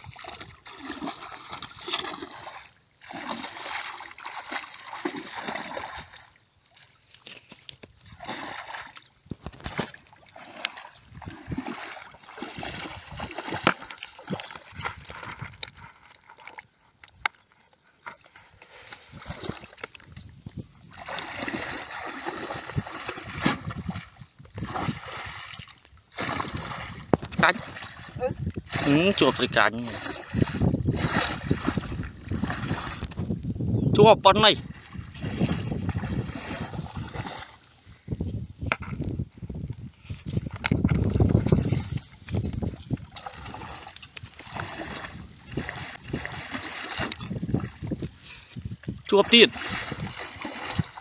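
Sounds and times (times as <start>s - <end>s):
muddy water splashing and sloshing: 0.0s - 51.0s.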